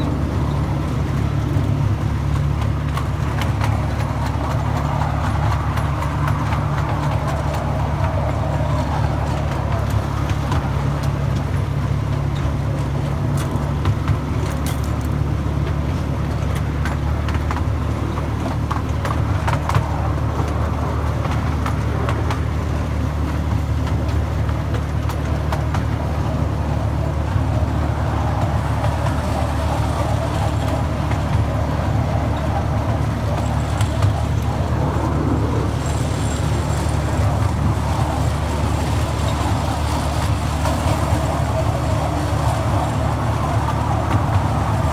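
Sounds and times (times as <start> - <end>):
miniature train rumbling: 0.0 - 44.9.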